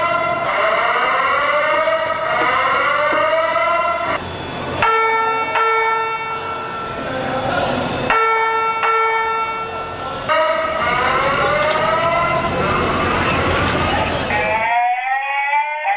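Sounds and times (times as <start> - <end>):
rising whoop alarm tones: 0.0 - 13.0, 14.3 - 15.9.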